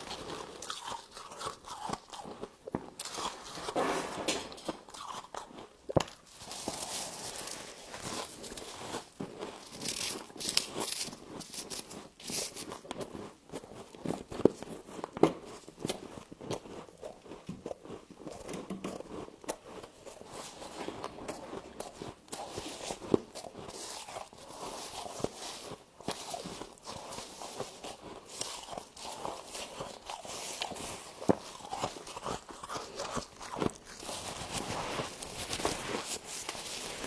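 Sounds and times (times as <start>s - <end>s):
crunching and chewing frost: 0.0s - 37.0s.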